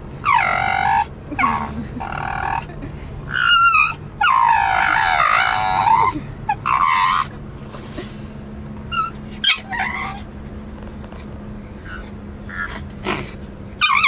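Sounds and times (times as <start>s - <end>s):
car low hum: 0.0s - 14.0s.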